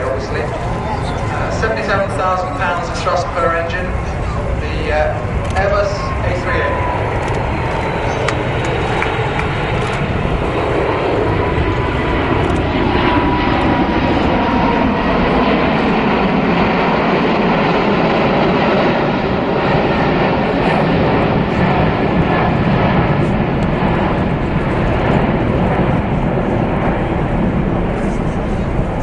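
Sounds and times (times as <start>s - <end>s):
jet airliner flying past: 0.0s - 29.0s.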